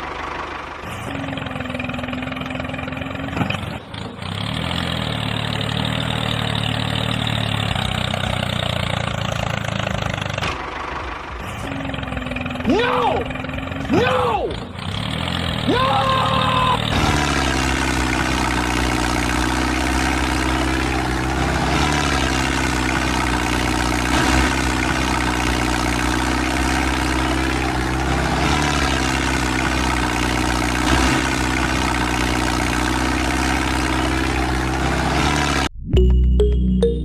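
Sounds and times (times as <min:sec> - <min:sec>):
tractor engine idling: 0:00.0 - 0:35.8.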